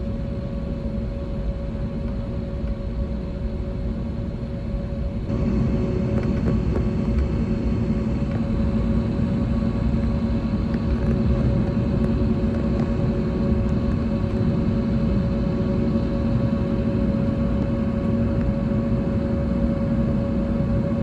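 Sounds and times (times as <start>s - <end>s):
constant tonal hum: 0.0s - 21.0s
aircraft cabin rumble: 1.8s - 21.0s.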